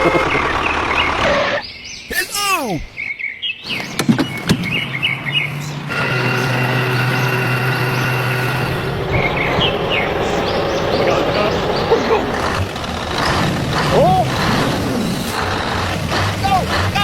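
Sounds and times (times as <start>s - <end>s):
small motor humming: 0.0s - 1.6s, 4.5s - 17.0s.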